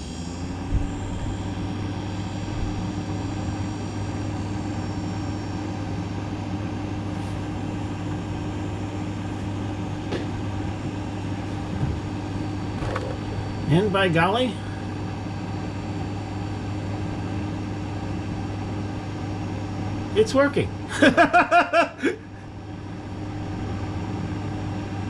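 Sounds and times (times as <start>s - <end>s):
refrigerator compressor humming: 0.0s - 25.0s.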